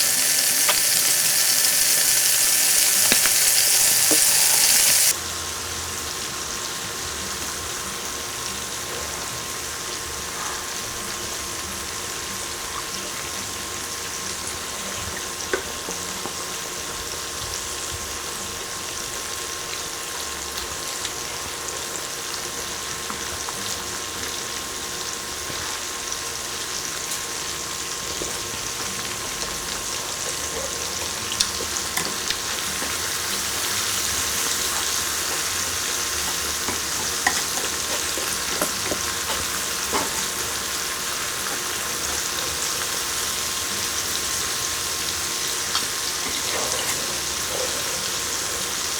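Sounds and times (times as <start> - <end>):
food sizzling on a grill: 0.0 - 48.9.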